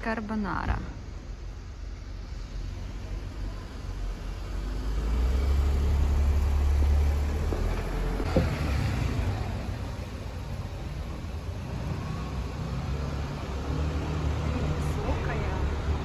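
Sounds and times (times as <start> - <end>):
car driving past: 2.6 - 16.0.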